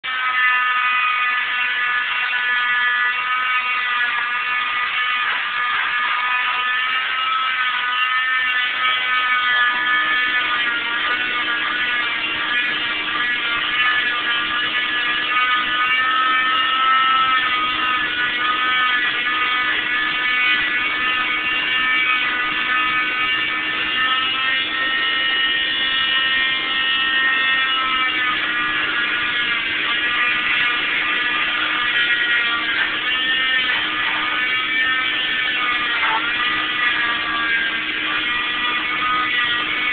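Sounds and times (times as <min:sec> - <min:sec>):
oscillating saw whining: 0:00.1 - 0:39.9.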